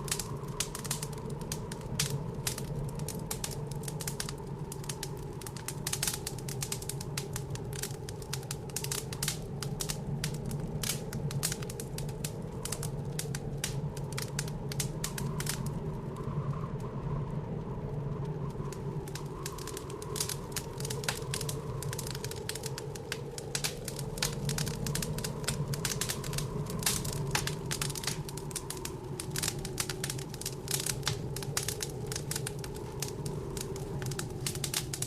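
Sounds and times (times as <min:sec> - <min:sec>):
blizzard wind howling: 0:00.0 - 0:35.0
wood fire crackling: 0:00.0 - 0:35.0.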